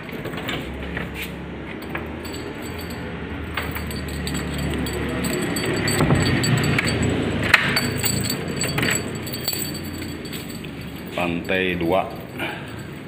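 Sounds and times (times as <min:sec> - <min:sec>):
light metallic clicks and clinks: 0:01.8 - 0:13.0.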